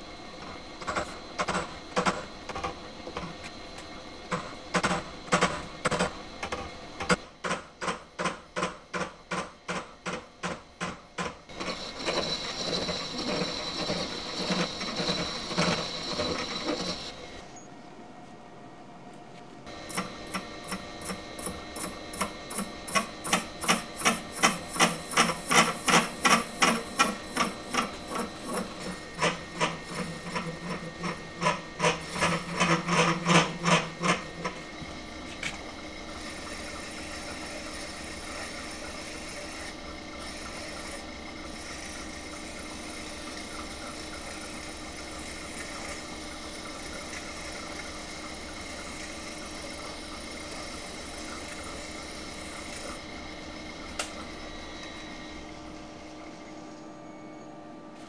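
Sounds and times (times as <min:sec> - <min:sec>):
machine humming: 0:10.6 - 0:58.0.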